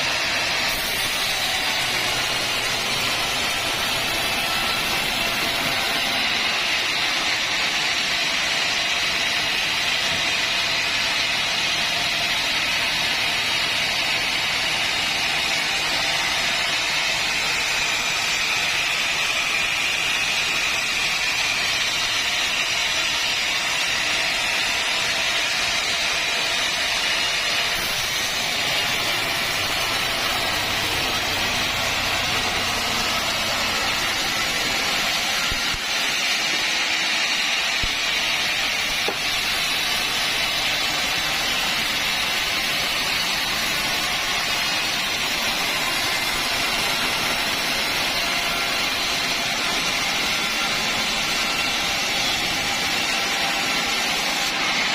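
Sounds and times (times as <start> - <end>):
sawmill saw cutting log: 0.0 - 54.9.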